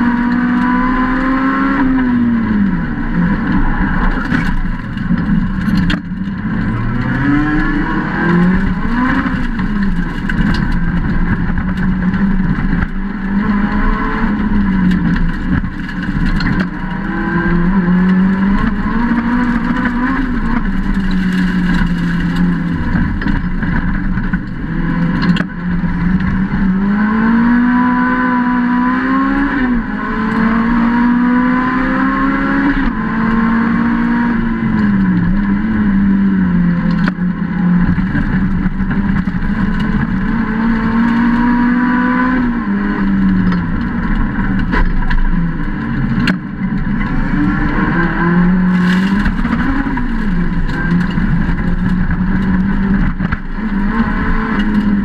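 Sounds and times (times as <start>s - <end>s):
race car engine revving: 0.0s - 55.0s
tyre and road noise: 0.0s - 55.0s.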